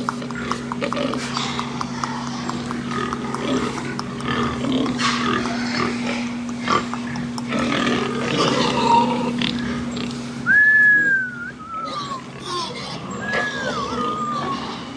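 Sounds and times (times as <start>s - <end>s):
pigs grunting: 0.0s - 14.9s
steady low hum: 0.0s - 14.9s.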